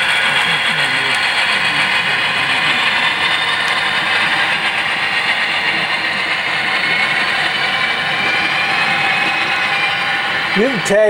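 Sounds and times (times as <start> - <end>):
model train whirring on track: 0.0 - 11.0.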